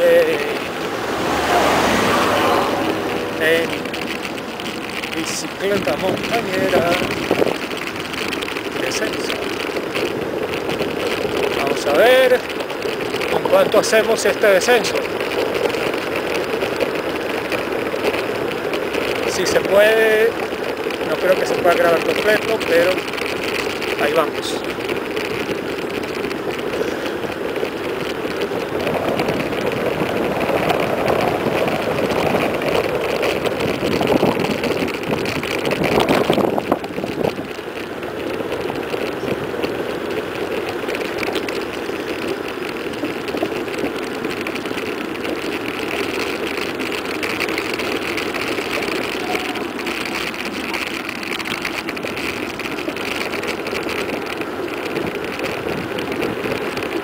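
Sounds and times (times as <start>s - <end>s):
bike tyres on asphalt: 0.0s - 57.0s
wind rushing over microphone: 0.0s - 57.0s.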